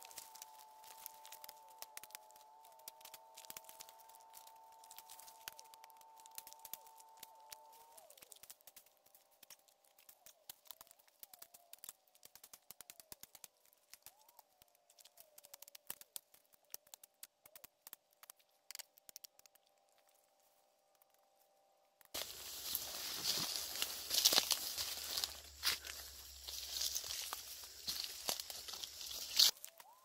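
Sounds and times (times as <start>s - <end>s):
twigs crackling underfoot: 0.0s - 21.1s, 22.1s - 30.0s.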